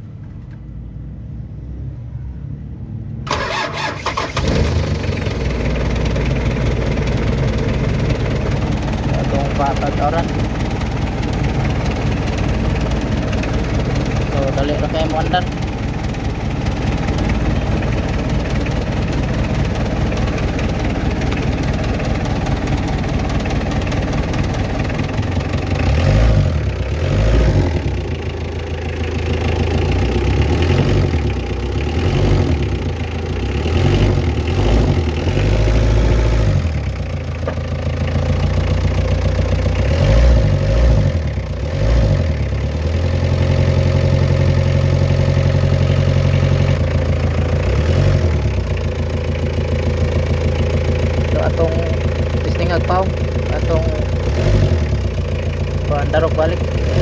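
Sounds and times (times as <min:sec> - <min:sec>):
diesel engine running: 0:03.2 - 0:57.0.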